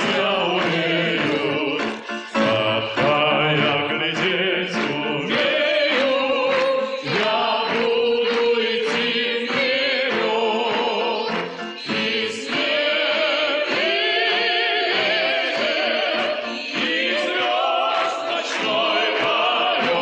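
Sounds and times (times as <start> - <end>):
orchestral accompaniment: 0.0 - 20.0
two men singing a duet: 0.0 - 20.0.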